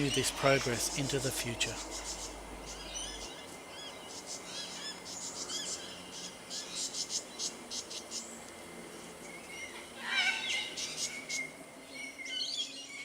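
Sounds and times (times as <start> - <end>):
bird chirping: 0.0 - 13.0
insects chirping: 0.0 - 13.0.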